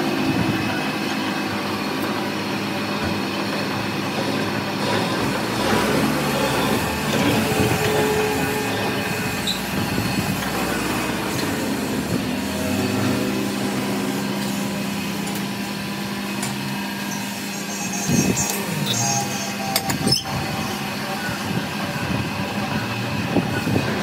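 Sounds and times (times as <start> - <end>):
lathe motor and gearing drone: 0.0 - 24.0.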